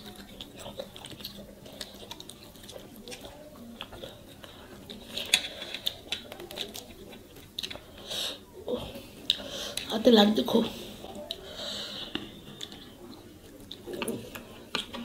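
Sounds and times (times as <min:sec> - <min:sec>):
chewing: 0:00.0 - 0:10.0, 0:10.6 - 0:15.0
fingers mixing food on plates: 0:00.0 - 0:15.0.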